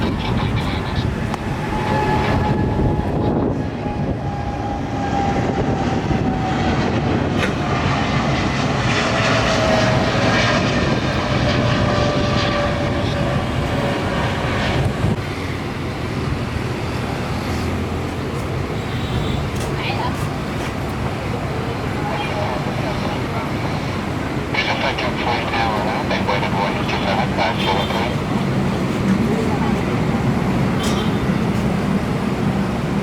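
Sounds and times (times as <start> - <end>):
airliner engines with falling whine: 0.0 - 33.0.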